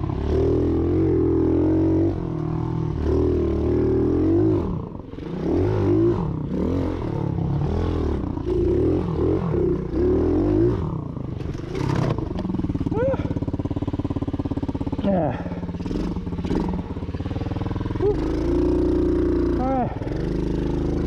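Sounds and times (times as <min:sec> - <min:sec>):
pit bike engine revving: 0:00.0 - 0:21.0.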